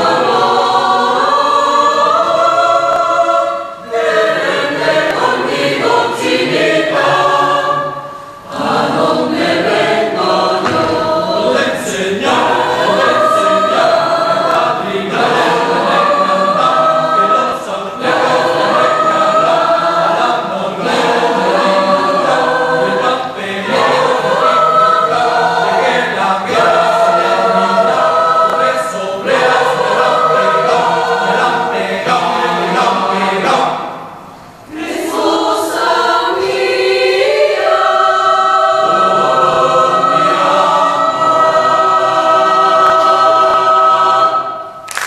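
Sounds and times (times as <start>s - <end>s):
mixed choir singing a cappella: 0.0s - 45.0s.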